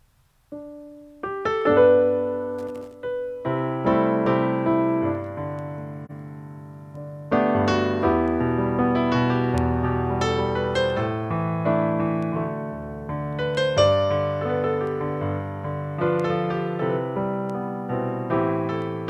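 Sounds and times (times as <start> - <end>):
piano hymn accompaniment: 0.5 - 19.0.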